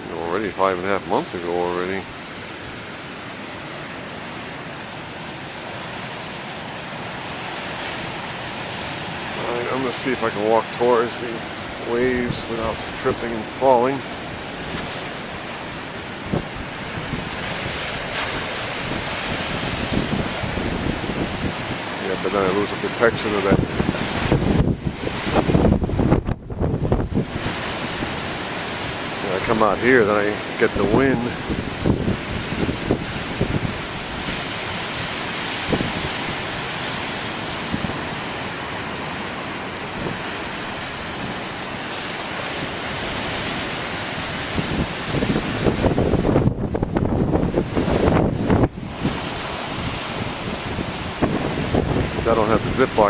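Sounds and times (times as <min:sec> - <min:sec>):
surf breaking on shore: 0:00.0 - 0:53.0
wind buffeting microphone: 0:00.0 - 0:53.0.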